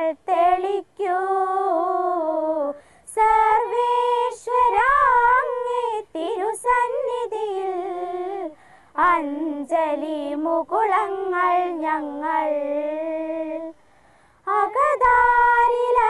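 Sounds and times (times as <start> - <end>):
young voices singing a prayer song: 0.0 - 16.0.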